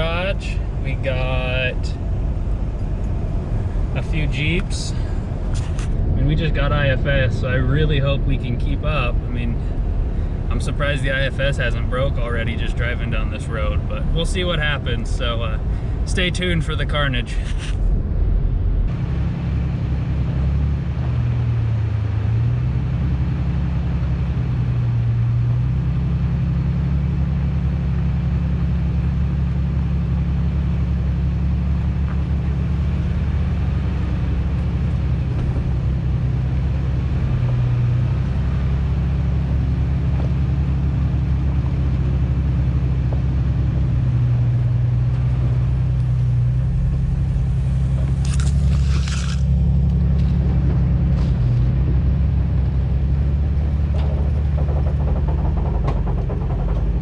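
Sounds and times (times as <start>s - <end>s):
engine and road noise drone: 0.0s - 57.0s.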